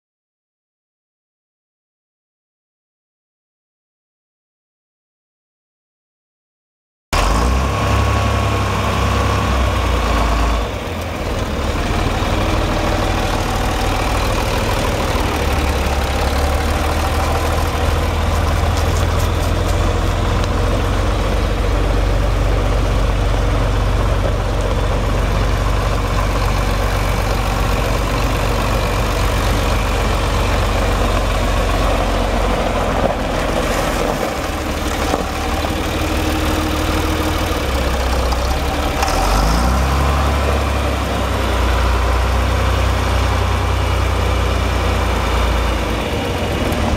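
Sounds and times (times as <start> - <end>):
tractor diesel engine running: 7.2 - 46.9.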